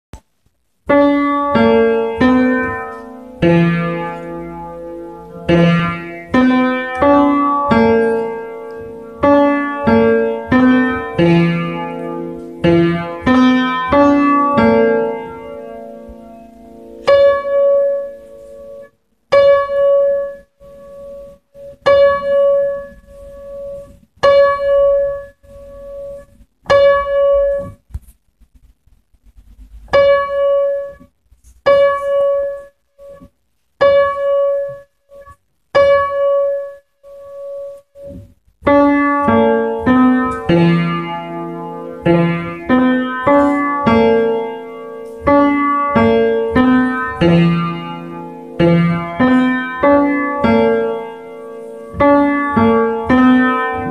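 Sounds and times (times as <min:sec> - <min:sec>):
piano playing: 0:00.8 - 0:27.8, 0:29.9 - 0:31.1, 0:31.7 - 0:53.9.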